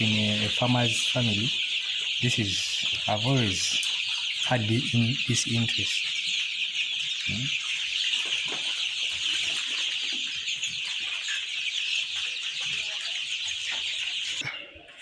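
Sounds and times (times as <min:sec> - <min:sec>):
chicken clucks: 0:00.0 - 0:15.0
chicks peeping: 0:00.0 - 0:15.0.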